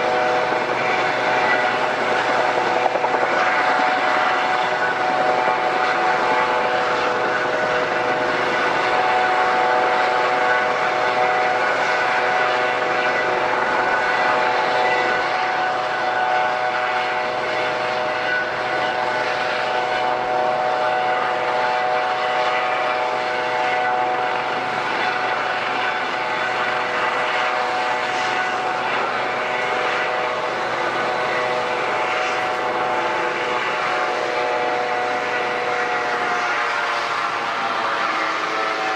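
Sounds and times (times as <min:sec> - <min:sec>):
airliner engines whining: 0:00.0 - 0:38.9.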